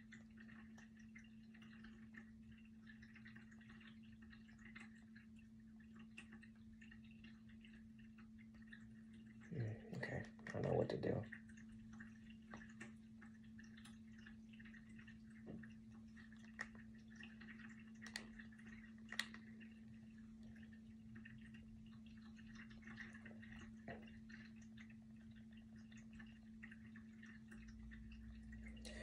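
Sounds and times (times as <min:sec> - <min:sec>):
faint clicks and taps: 0:00.0 - 0:29.0
faint steady hum: 0:00.0 - 0:29.0.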